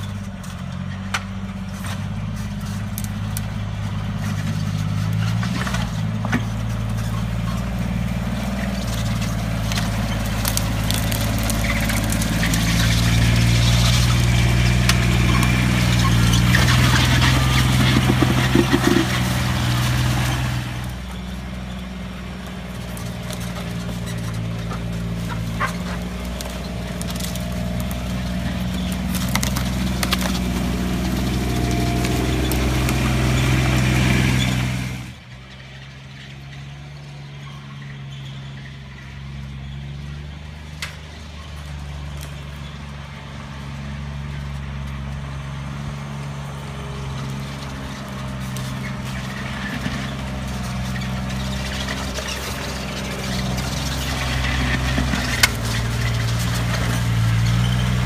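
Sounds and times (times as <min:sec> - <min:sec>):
tracks clicking and rattling: 0:00.0 - 0:38.0, 0:46.4 - 0:58.0
diesel engine drone: 0:00.0 - 0:58.0.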